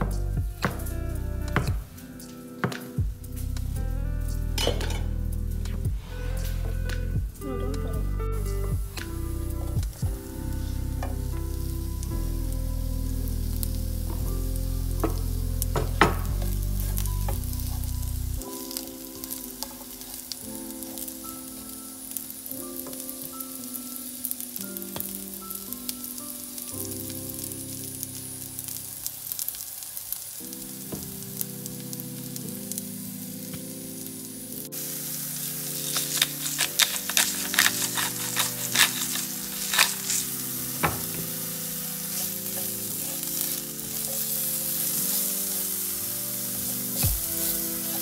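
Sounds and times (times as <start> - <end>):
soft background music: 0.0 - 48.0
mushrooms sizzling in frying pan: 9.1 - 48.0.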